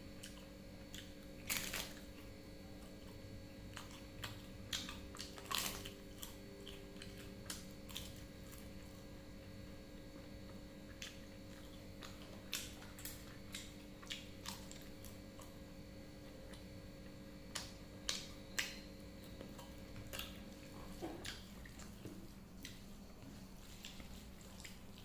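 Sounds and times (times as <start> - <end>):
person chewing crunchy food: 0.0 - 9.3, 9.9 - 25.0
faint steady hum: 0.0 - 25.0.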